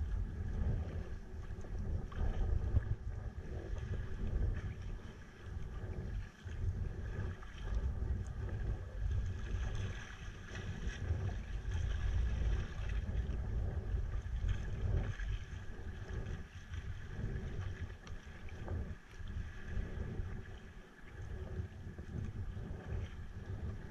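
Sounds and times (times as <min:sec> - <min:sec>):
choppy water splashing on hull: 0:00.0 - 0:23.9
wind buffeting microphone: 0:00.0 - 0:23.9.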